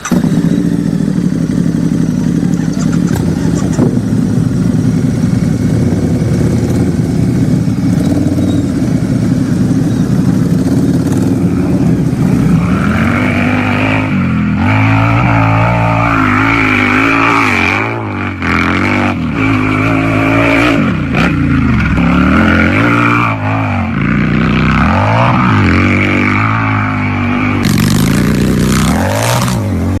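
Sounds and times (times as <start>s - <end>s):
motorcycle engine idling and revving: 0.0s - 30.0s.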